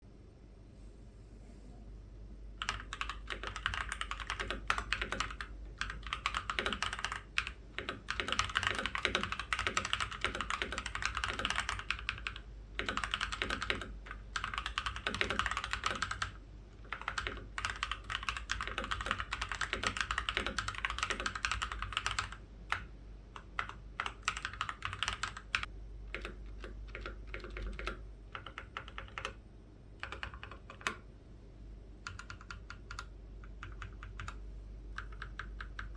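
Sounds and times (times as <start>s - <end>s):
keyboard typing: 2.6s - 29.4s, 30.0s - 31.0s, 32.0s - 35.9s.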